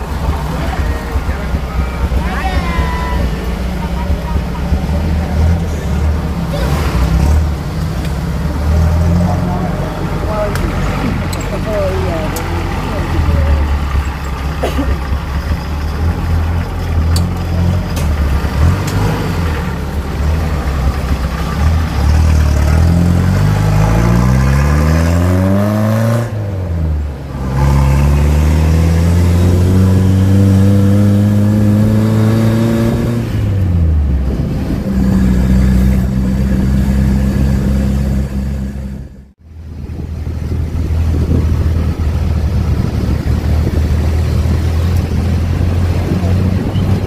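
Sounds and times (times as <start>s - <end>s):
jeep engine accelerating: 0.0s - 47.0s.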